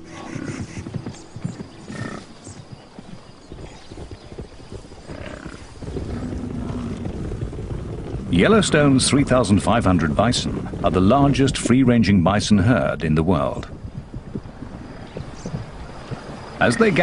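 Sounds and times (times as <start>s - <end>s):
hooves clattering and thudding: 0.0s - 17.0s.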